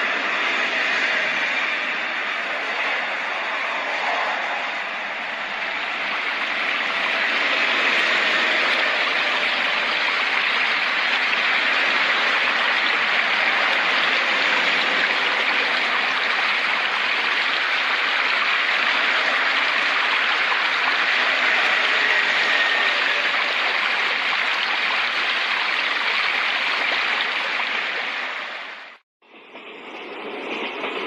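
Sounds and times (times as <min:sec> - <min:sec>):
flowing water rushing: 0:03.2 - 0:29.0.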